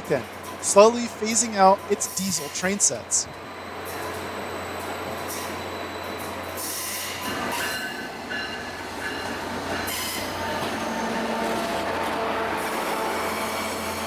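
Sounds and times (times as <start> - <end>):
low train rumble: 0.0 - 14.0
train wheels squealing on rails: 0.3 - 14.0.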